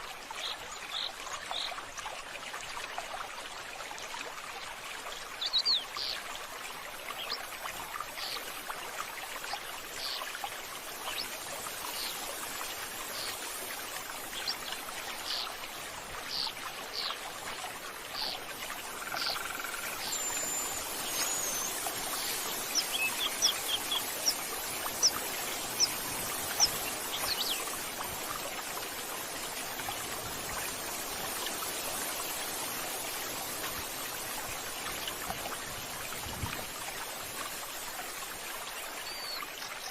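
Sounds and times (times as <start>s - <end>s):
running water splashing: 4.3s - 39.9s.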